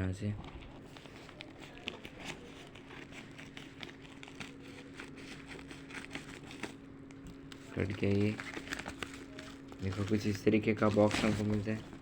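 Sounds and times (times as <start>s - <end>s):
packaging crinkling: 0.4s - 12.0s.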